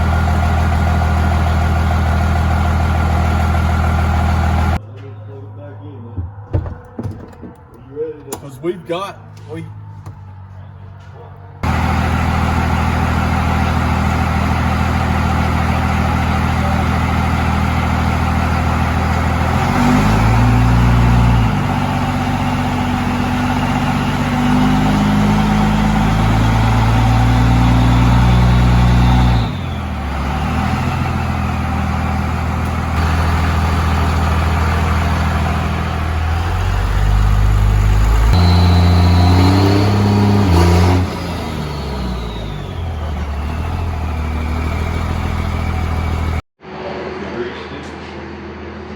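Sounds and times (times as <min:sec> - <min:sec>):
diesel engine revving: 0:00.0 - 0:04.8, 0:11.6 - 0:46.5.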